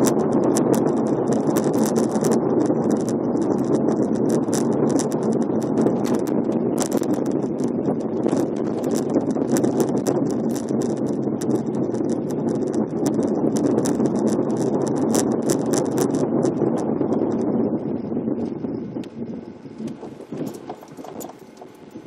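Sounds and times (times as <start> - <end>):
clicks and rattles: 0.0 - 16.9, 19.8 - 22.0
car tyre and engine noise: 0.0 - 22.0.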